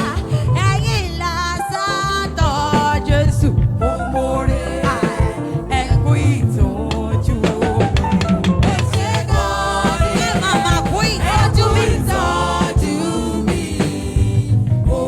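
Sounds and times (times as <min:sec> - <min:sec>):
gospel music with singing: 0:00.0 - 0:15.0.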